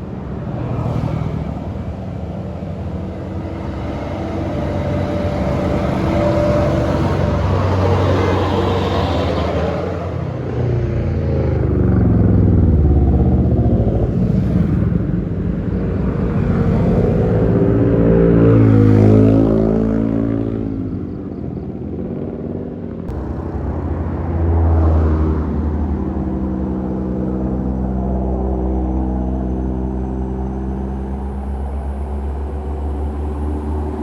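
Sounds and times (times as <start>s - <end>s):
large vehicle engines passing: 0.0s - 34.0s
traffic passing at speed: 0.0s - 34.0s.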